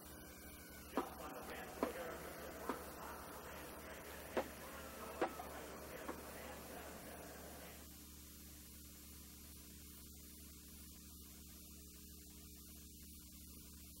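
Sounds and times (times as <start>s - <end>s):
electrical mains hum: 0.0s - 14.0s
faint hiss: 0.0s - 14.0s.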